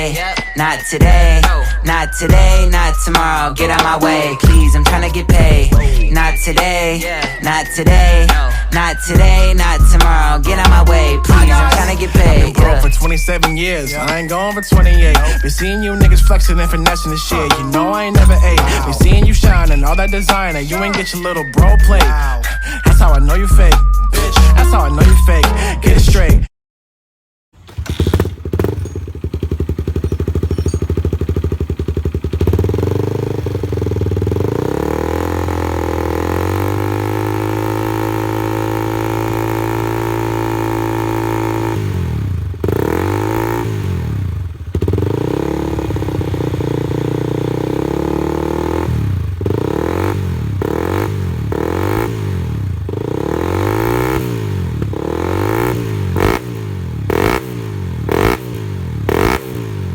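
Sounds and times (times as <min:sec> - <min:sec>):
motorcycle engine revving: 0:00.0 - 0:21.0, 0:27.6 - 0:59.9.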